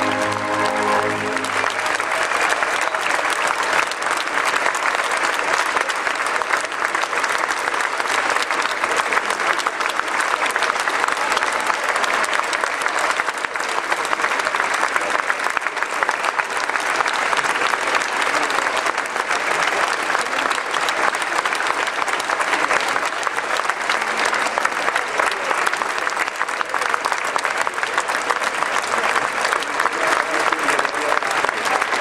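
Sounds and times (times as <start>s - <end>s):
large audience applauding: 0.0s - 32.0s.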